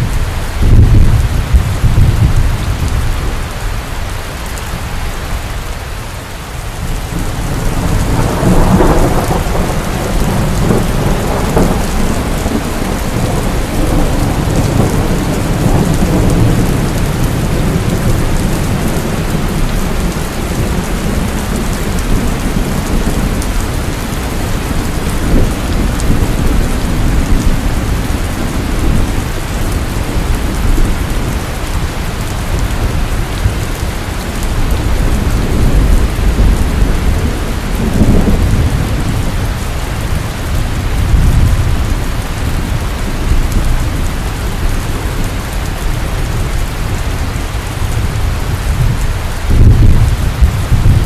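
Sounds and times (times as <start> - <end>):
low thunder rumbling: 0.0 - 3.8, 6.7 - 51.0
heavy rain pouring: 0.0 - 51.0.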